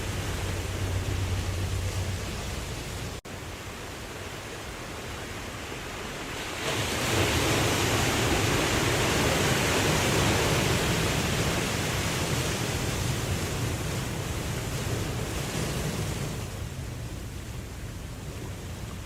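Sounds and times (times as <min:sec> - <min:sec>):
ocean waves washing: 0:00.0 - 0:19.0.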